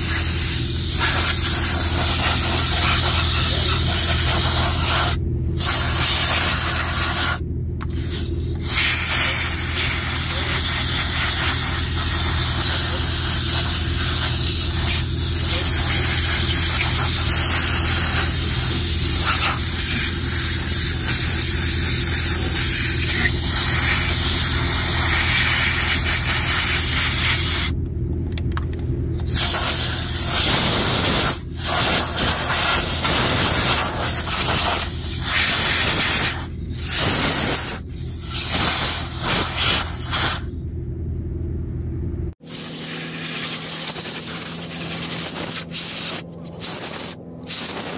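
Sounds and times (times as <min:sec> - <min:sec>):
pressure washer spraying water: 0:00.0 - 0:27.7, 0:29.3 - 0:40.5, 0:42.4 - 0:47.9
steady low hum: 0:00.0 - 0:47.9.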